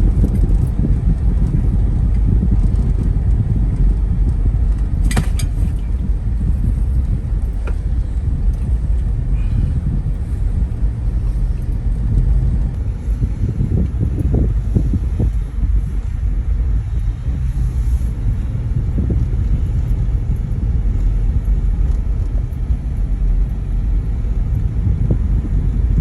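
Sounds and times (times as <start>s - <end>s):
vehicle rumbling in motion: 0.0s - 26.0s.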